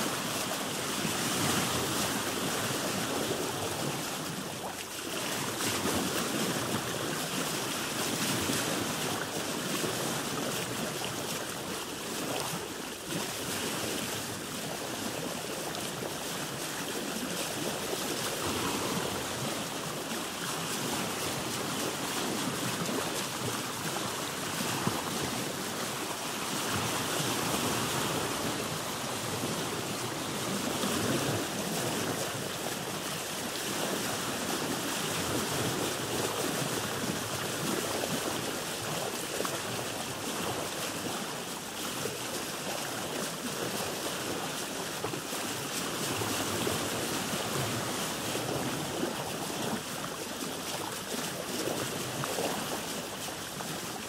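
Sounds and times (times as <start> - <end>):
water lapping against boat: 0.0 - 54.0.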